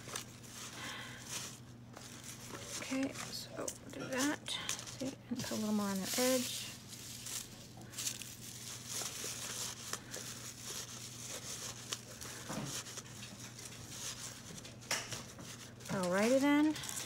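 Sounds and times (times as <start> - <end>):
paper shred rustling: 0.0 - 3.5, 4.1 - 17.0.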